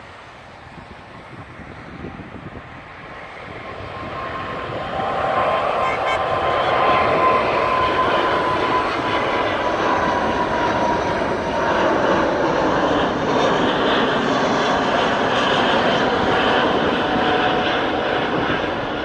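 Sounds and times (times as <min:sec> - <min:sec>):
loud jet engine roar: 0:00.0 - 0:19.0
thin engine whine: 0:00.4 - 0:19.0.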